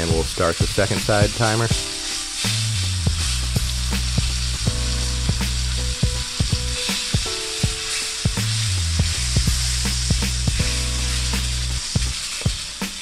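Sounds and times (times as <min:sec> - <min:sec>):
background music with bass: 0:00.0 - 0:13.0
steak sizzling in a pan: 0:00.0 - 0:13.0.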